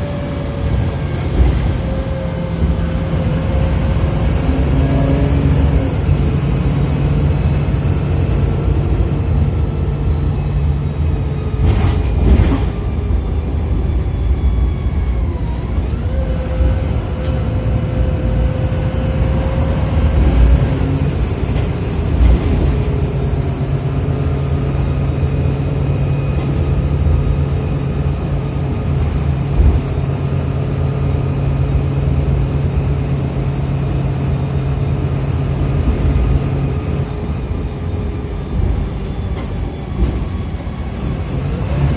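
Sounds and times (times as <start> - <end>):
bus engine drone: 0.0 - 41.9
gearbox whine rising: 0.0 - 41.9.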